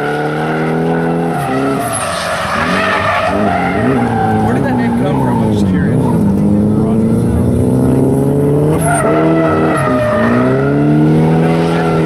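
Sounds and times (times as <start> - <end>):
car engine revving hard: 0.0 - 12.0
tires skidding on asphalt: 0.0 - 12.0.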